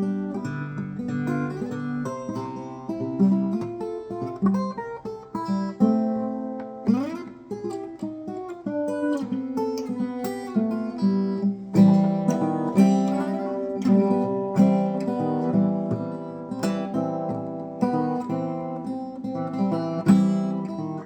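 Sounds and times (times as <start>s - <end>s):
acoustic guitar blues: 0.0s - 21.0s.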